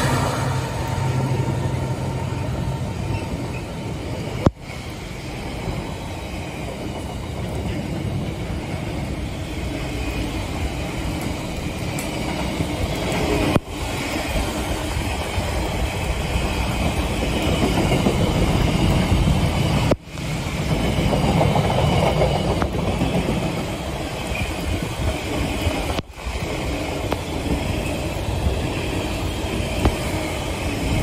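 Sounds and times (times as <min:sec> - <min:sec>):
freight train wheels on rail: 0:00.0 - 0:31.0.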